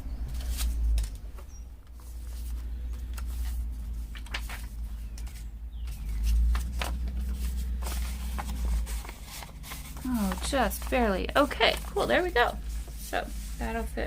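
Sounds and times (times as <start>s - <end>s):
paper rustling and scraping: 0.2s - 14.0s.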